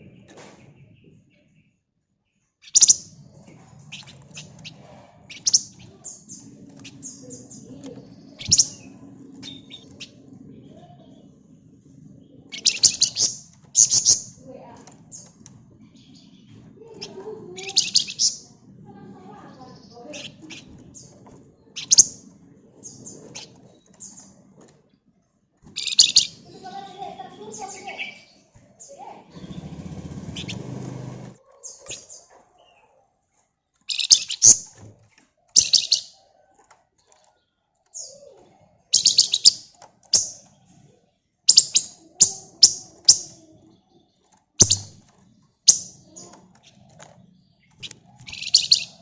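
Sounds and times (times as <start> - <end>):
bird chirping: 0.0 - 49.0.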